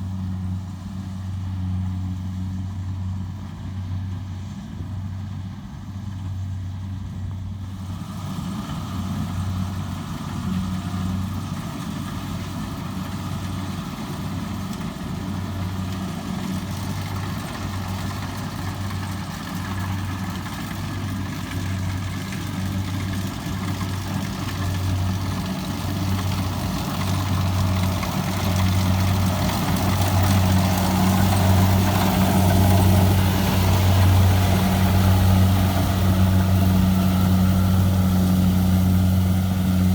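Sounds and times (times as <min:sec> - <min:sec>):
diesel engine humming: 0:07.5 - 0:39.9.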